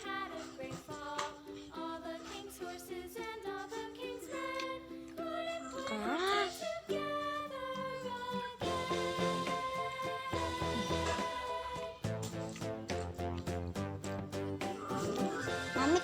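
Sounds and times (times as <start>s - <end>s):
upbeat children's music: 0.0s - 16.0s.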